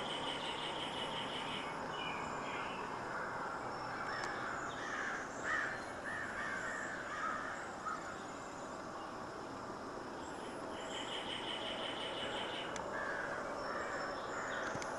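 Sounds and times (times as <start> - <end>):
bird calls: 0.0 - 14.9
steady hiss: 0.0 - 14.9.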